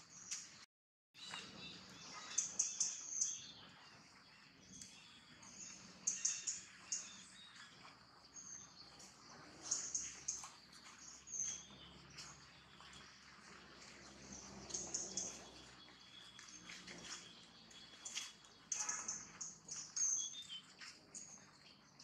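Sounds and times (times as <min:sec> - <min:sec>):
small birds chirping: 0:00.0 - 0:00.6, 0:01.2 - 0:22.0
faint outdoor ambience: 0:01.2 - 0:22.0.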